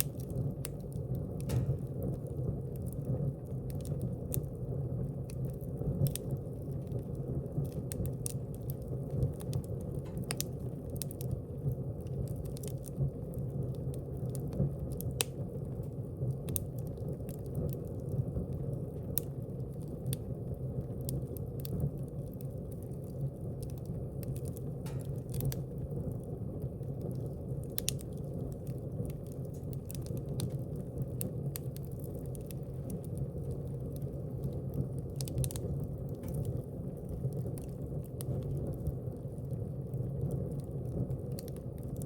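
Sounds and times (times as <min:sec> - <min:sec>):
logs crackling and popping: 0:00.0 - 0:42.0
low rush of flames: 0:00.0 - 0:42.0.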